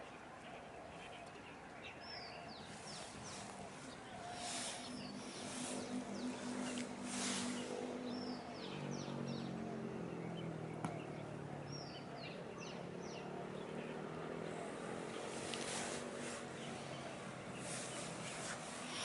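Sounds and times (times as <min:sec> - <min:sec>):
bird chirps: 0:00.0 - 0:19.0
low engine hum: 0:02.4 - 0:19.0.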